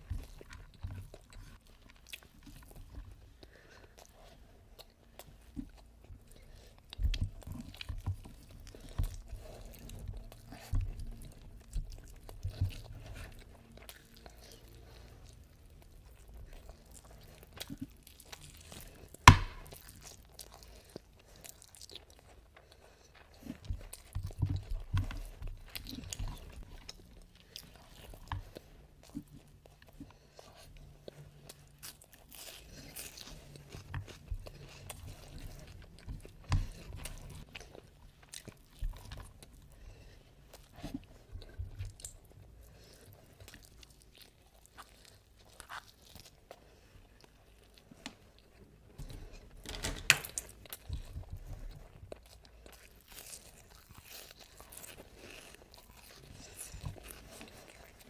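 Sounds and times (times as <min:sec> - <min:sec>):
person chewing and biting food: 0:00.0 - 0:49.6, 0:50.2 - 0:58.0.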